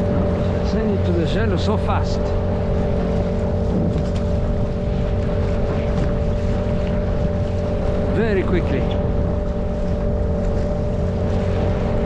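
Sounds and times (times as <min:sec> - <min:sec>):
outboard motor running: 0:00.0 - 0:12.0
water rushing: 0:00.0 - 0:12.0
wind: 0:00.0 - 0:12.0.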